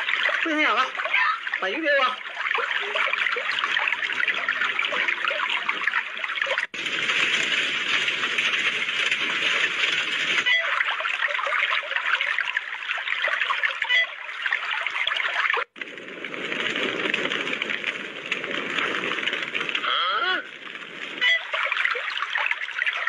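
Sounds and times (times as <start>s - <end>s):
rushing splashing water: 0.0s - 23.0s.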